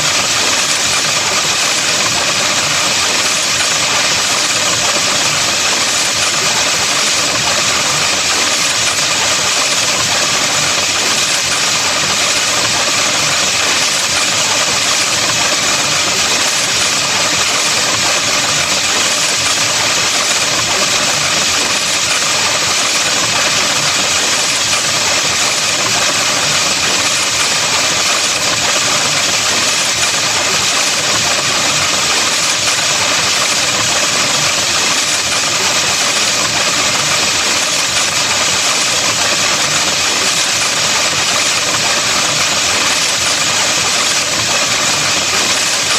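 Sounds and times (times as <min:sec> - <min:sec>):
harsh electronic buzzing: 0:00.0 - 0:45.9.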